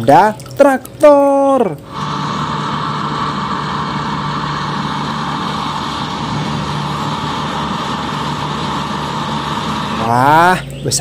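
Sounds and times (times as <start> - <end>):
tractor diesel engine running: 1.9 - 11.0.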